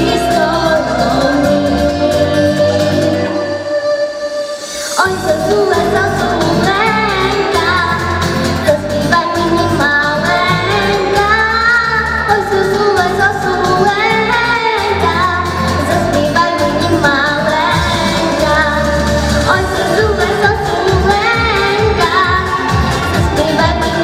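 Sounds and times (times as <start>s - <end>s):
girl singing into microphone: 0.0s - 24.0s
pop backing track: 0.0s - 24.0s.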